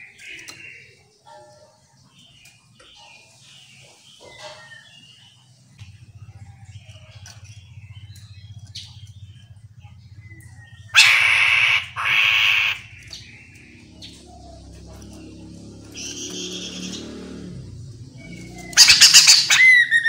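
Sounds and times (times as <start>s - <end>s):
bird harsh rasping calls: 0.0s - 20.0s.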